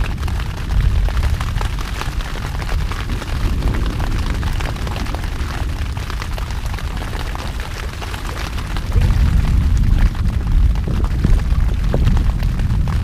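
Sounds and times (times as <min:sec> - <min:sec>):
small ticks and pops: 0:00.0 - 0:13.0
thunder rumble: 0:00.0 - 0:13.0.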